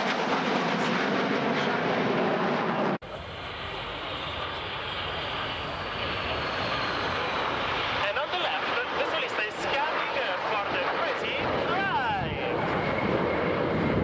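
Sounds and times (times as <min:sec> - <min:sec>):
falling jet whine: 0:00.0 - 0:14.0
jets passing overhead: 0:00.0 - 0:14.0.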